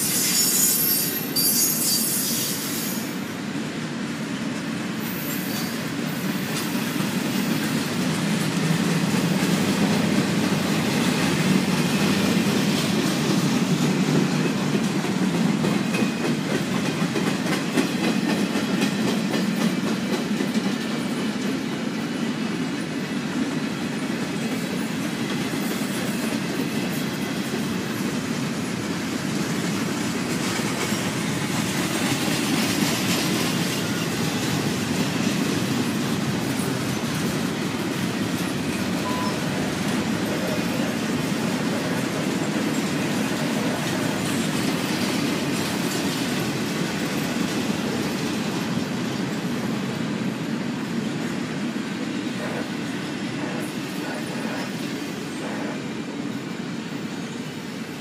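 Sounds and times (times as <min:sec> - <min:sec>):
train wheels rumbling on rail: 0:00.0 - 0:58.0
clickety-clack over rail joints: 0:03.7 - 0:56.6.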